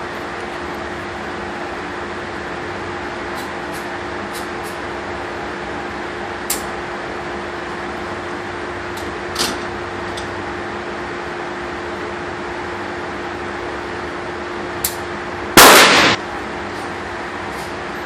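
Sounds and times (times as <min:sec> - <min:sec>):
fan-like hum: 0:00.0 - 0:18.0.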